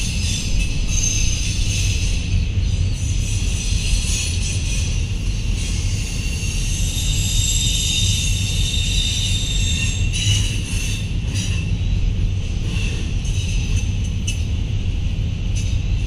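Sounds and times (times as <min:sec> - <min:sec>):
freight train rumbling: 0:00.0 - 0:16.0
steel wheels squealing on rail: 0:00.0 - 0:16.0.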